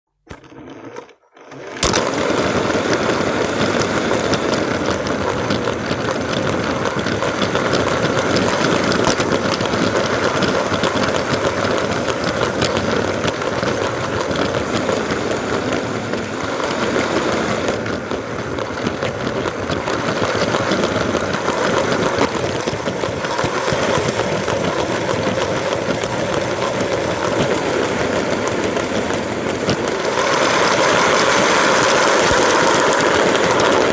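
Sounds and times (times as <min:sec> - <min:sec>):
wheels rattling on plastic track: 0:00.2 - 0:33.9
toy train motor running: 0:00.3 - 0:33.9.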